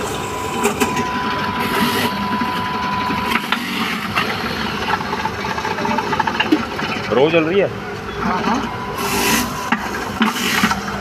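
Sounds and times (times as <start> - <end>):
juicer machine grinding carrots: 0.0 - 11.0.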